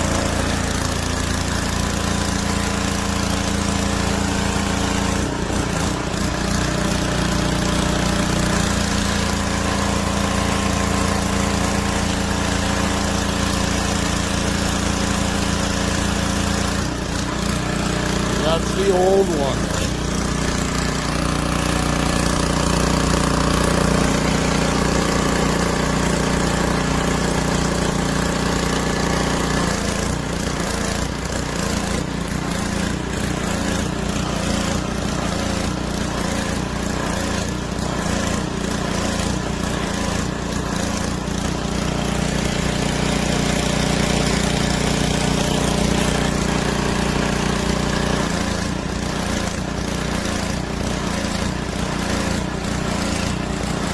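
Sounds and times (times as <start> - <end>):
pressure washer engine running: 0.0 - 53.9.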